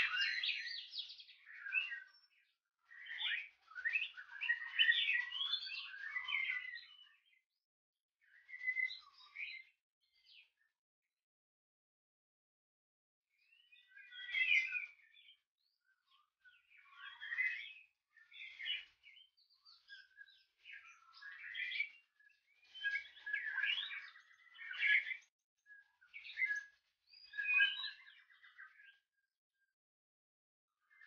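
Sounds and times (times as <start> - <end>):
bird whistling song: 0.0 - 7.4, 8.3 - 10.4, 13.5 - 29.0.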